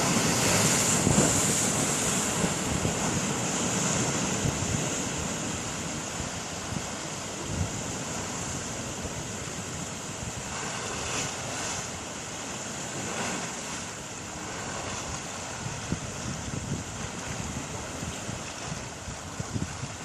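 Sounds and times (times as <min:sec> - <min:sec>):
ocean surf breaking: 0:00.0 - 0:20.0
wind rumbling on microphone: 0:00.0 - 0:20.0.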